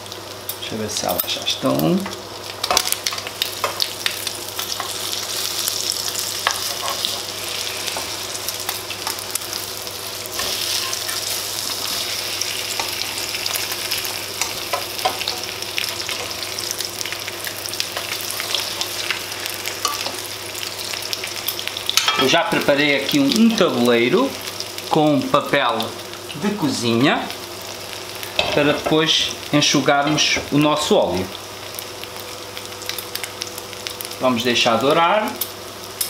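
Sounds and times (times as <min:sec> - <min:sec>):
bread sizzling in oil: 0:00.0 - 0:36.0.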